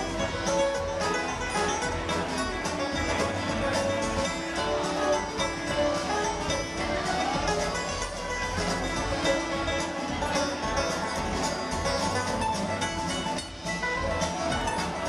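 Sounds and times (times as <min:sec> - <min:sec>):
live bluegrass string band: 0:00.0 - 0:15.0.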